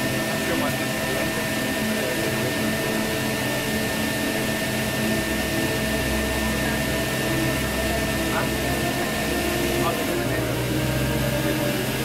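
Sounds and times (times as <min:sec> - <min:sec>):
turboprop cabin drone: 0:00.0 - 0:12.0.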